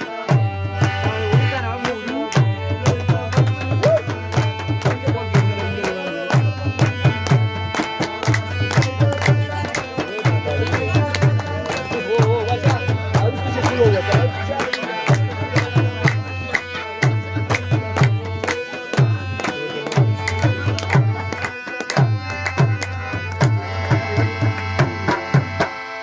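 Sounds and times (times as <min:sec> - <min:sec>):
harmonium held reedy notes: 0:00.0 - 0:26.0
tabla strokes: 0:00.0 - 0:26.0.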